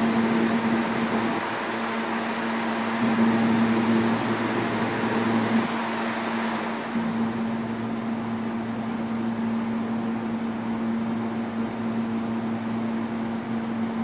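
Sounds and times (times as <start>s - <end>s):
air conditioning rushing noise: 0.0s - 14.0s
subway train humming: 0.0s - 14.0s.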